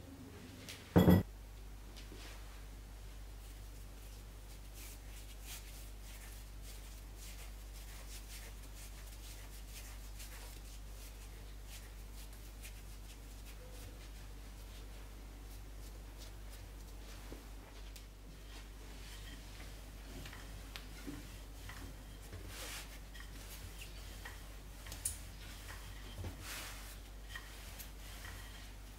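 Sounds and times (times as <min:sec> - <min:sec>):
low electrical hum: 0:00.0 - 0:28.9
hands kneading dough on board: 0:04.1 - 0:28.9.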